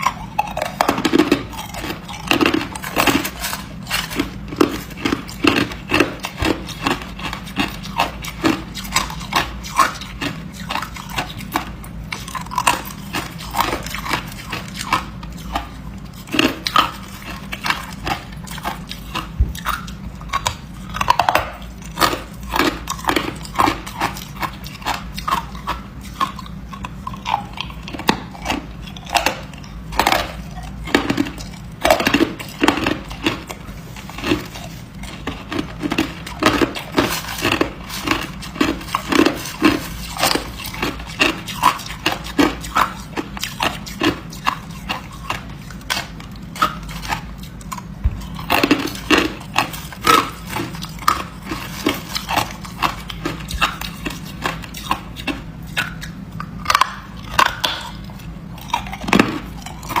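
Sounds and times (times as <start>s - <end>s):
ice being chewed: 0.0s - 60.0s.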